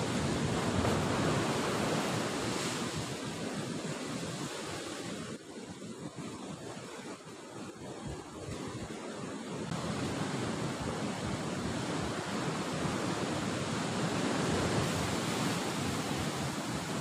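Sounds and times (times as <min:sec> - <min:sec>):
waves breaking below cliff: 0:00.0 - 0:17.0.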